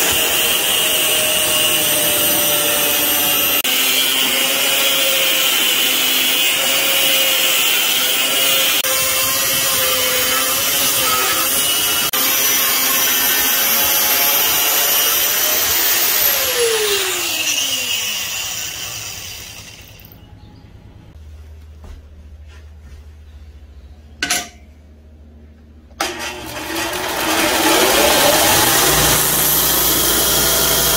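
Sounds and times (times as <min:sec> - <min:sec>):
angle grinder cutting steel: 0:00.0 - 0:20.2, 0:26.0 - 0:30.9
grinder disc spinning down: 0:00.0 - 0:20.2, 0:26.0 - 0:30.9.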